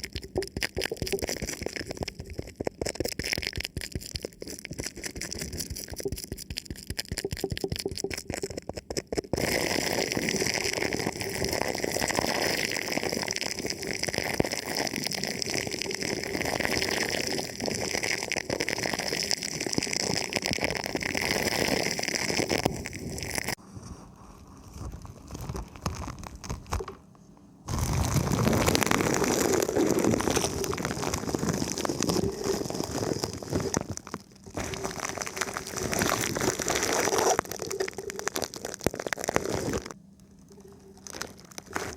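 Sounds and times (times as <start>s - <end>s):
plastic film crinkling on microphone: 0.0s - 27.0s, 27.7s - 41.9s.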